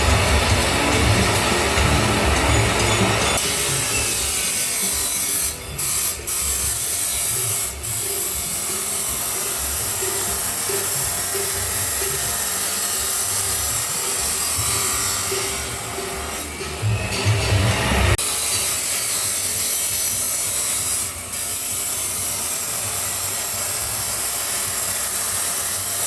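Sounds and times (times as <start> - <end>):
angle grinder cutting steel: 0.0 - 26.0.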